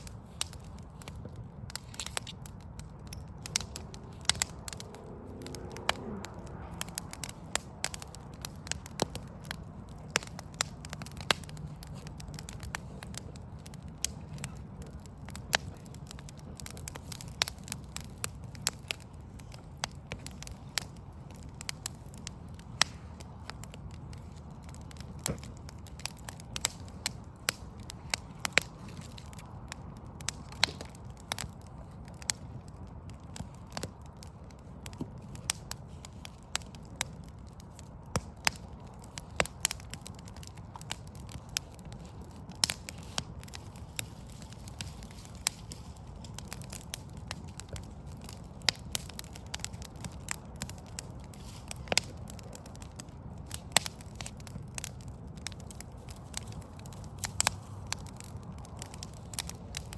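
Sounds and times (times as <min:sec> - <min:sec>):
low fire rumble: 0:00.0 - 0:59.9
sharp pops and snaps: 0:00.0 - 0:59.9
wood fire crackling: 0:00.0 - 0:59.9.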